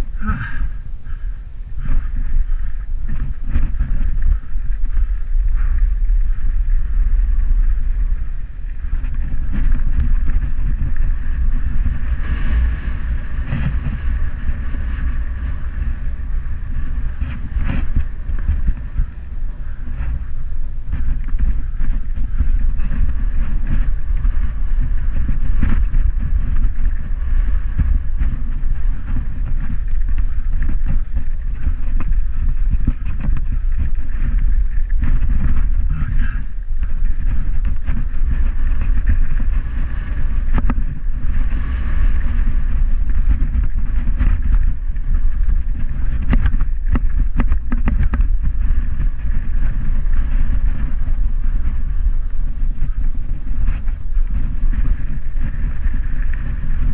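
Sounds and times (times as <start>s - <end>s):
bike knocking and rattling: 0.0s - 56.9s
wind rumble on microphone: 0.0s - 56.9s.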